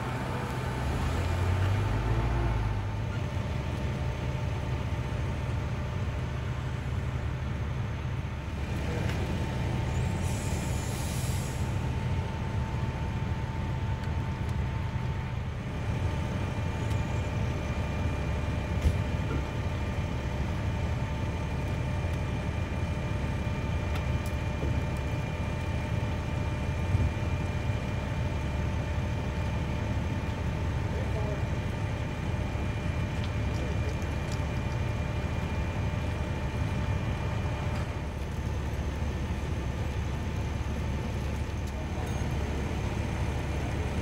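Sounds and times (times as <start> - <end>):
large engine idling: 0.0 - 44.0.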